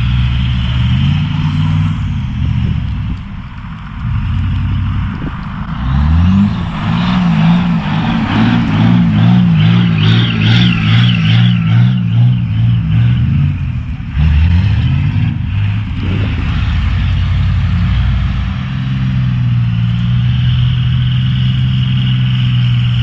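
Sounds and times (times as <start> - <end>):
diesel engine running: 0.0 - 23.0
steady high whine: 0.0 - 23.0.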